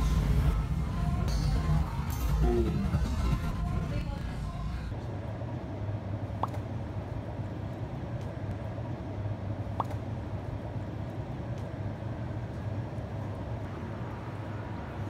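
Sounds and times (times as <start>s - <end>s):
city street traffic hum: 0.0s - 15.0s.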